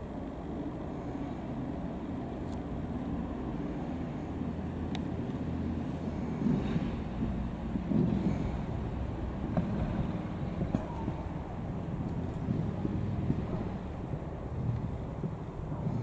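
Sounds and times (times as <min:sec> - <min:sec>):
electric locomotive rumbling: 0:00.0 - 0:16.0.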